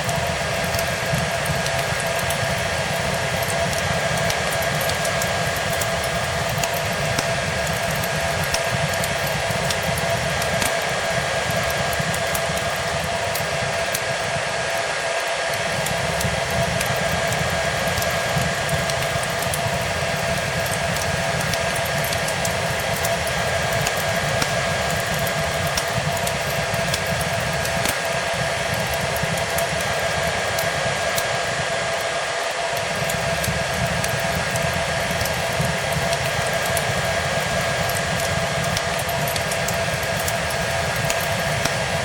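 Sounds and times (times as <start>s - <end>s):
faint wood fire crackles: 0.0s - 42.0s
hair dryer blowing: 0.0s - 42.0s.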